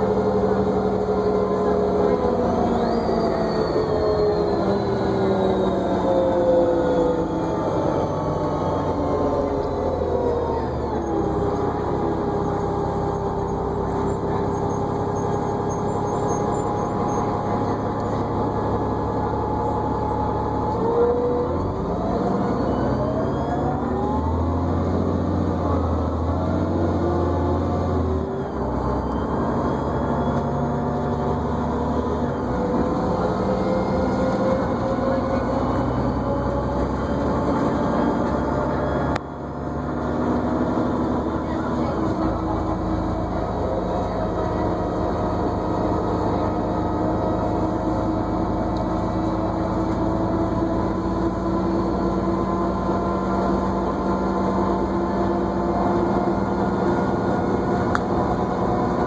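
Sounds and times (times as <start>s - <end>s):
bus engine whine: 0.0s - 59.0s.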